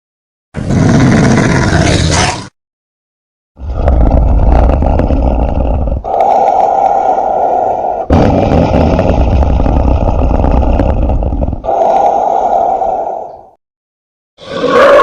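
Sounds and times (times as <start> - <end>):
monster roar: 0.6 - 2.5, 3.6 - 13.5, 14.4 - 15.0.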